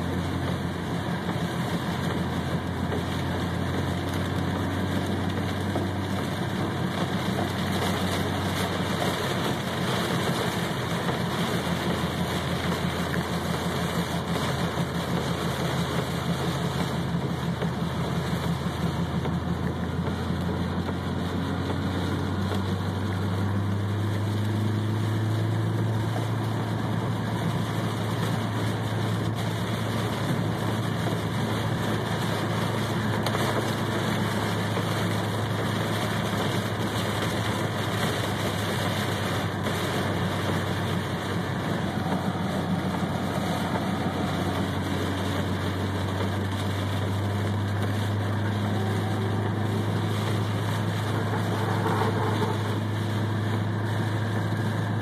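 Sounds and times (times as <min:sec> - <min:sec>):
car engine and road hum: 0:00.0 - 0:55.0
rain and tyre spray hiss: 0:00.0 - 0:55.0.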